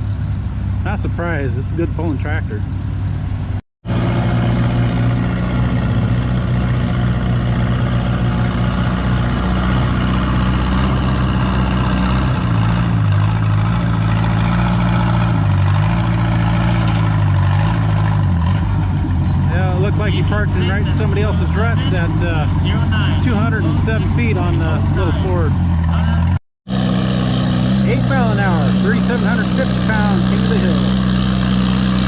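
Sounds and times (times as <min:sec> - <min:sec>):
tractor engine under load: 0:03.9 - 0:32.0.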